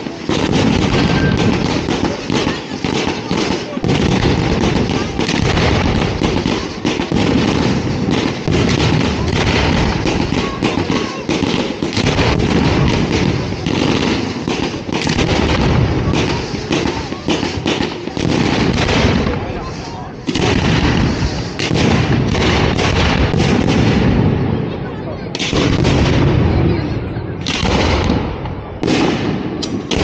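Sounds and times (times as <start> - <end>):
fireworks launching and bursting: 0.0 - 30.0.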